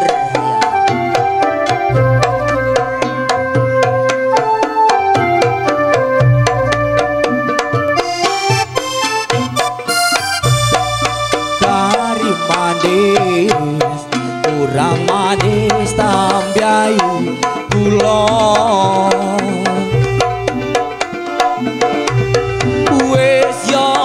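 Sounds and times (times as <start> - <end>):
wavering melody line: 0.0 - 23.9
hand drums: 0.0 - 24.0.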